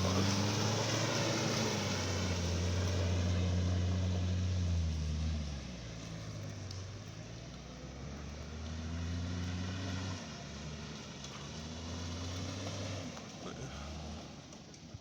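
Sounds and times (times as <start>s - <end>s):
car engine revving: 0.0s - 6.8s, 7.7s - 14.8s.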